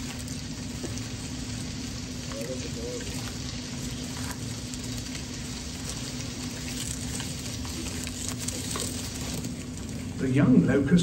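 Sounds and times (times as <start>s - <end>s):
crackling sizzling noise: 0.0s - 11.0s
low steady hum: 0.0s - 11.0s.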